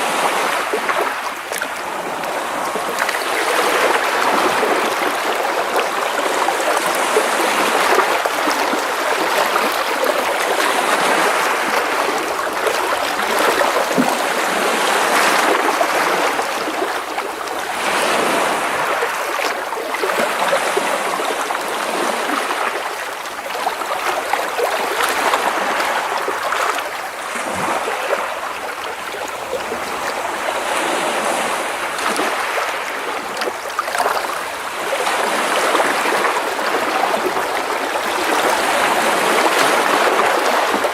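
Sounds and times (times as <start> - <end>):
waves splashing against rocks: 0.0 - 40.9.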